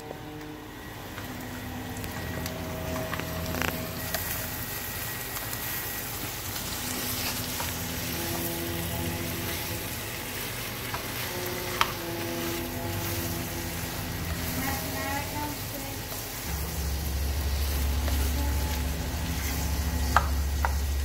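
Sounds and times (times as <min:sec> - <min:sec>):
meat sizzling in a pan: 0:01.9 - 0:21.0.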